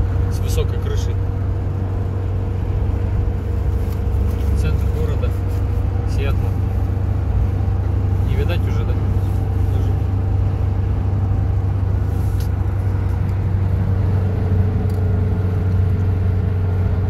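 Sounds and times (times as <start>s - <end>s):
diesel engine cabin drone: 0.0s - 17.0s
road and wind noise: 0.0s - 17.0s.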